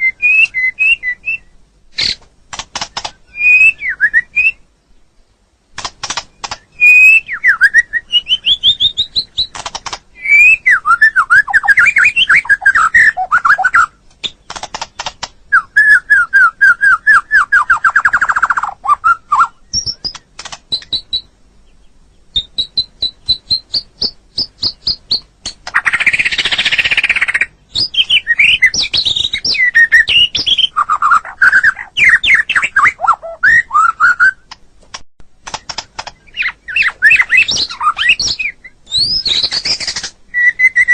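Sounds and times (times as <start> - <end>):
songbird singing: 0.0 - 34.7, 35.4 - 40.9.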